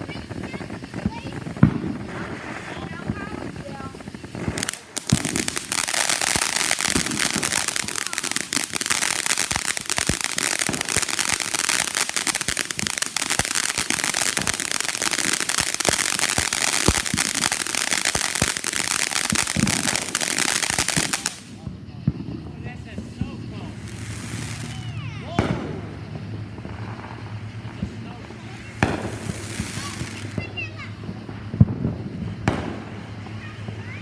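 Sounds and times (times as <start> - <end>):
firework hissing and crackling: 0.0 - 34.0.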